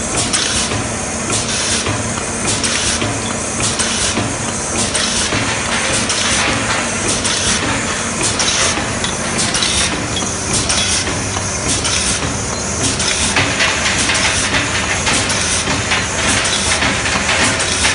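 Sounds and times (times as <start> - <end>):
machine clattering clicks: 0.2 - 17.9.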